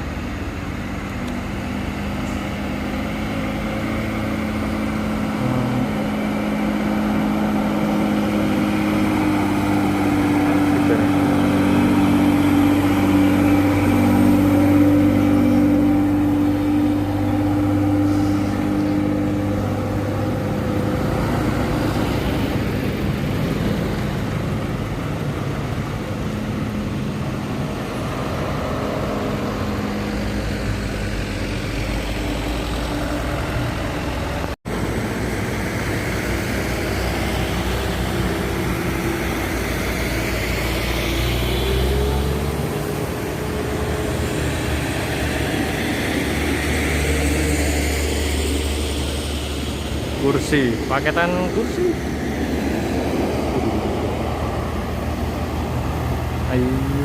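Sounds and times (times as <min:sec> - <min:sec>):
heavy vehicle engine: 0:00.0 - 0:57.0
rumble of passing vehicles: 0:00.0 - 0:57.0.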